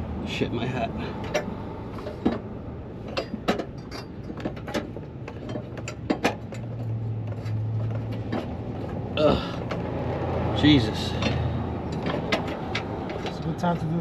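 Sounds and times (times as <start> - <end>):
hand tools clicking and knocking: 1.2 - 10.0, 11.1 - 14.0.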